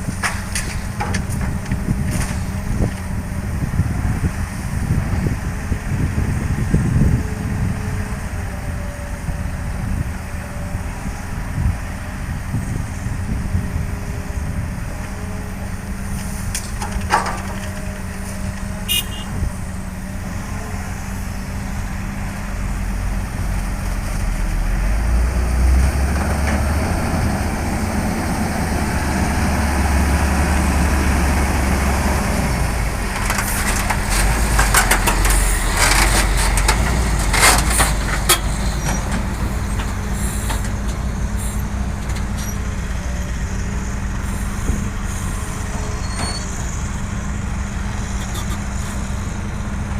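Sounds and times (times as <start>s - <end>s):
diesel machinery engine rumble: 0.0s - 49.9s.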